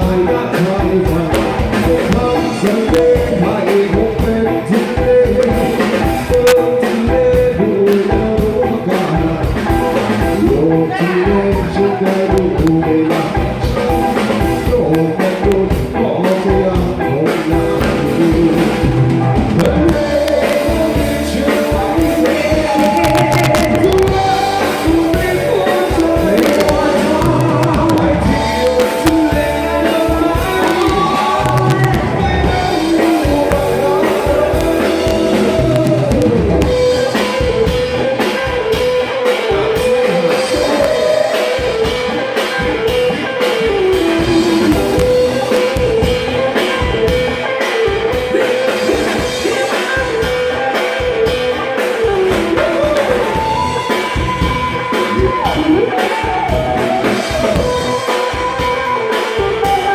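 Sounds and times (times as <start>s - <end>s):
drum kit: 0.0s - 59.9s
electric guitar: 0.0s - 59.9s
person singing: 0.0s - 59.9s.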